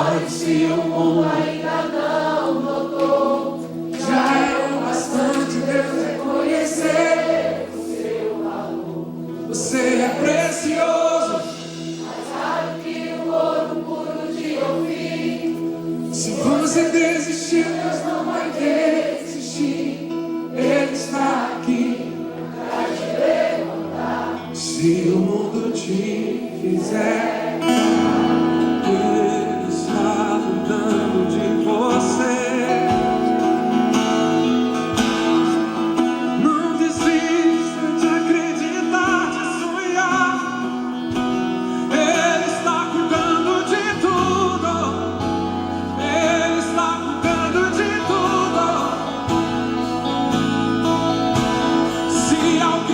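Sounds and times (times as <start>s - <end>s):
instrumental accompaniment: 0.0s - 52.9s
voices singing gospel song: 0.0s - 52.9s.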